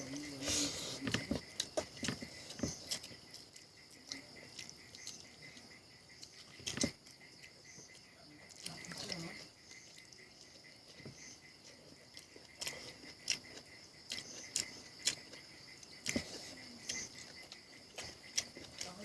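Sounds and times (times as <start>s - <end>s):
insects chirring: 0.0s - 19.0s
wet chewing and mouth smacks: 1.0s - 19.0s.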